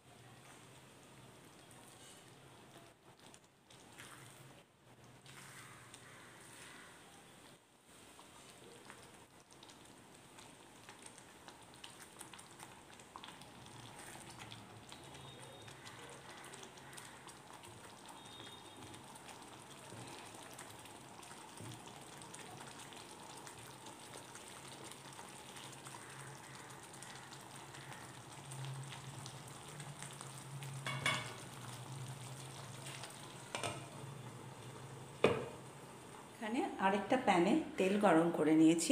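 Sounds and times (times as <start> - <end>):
gravy simmering and bubbling: 0.0 - 38.2.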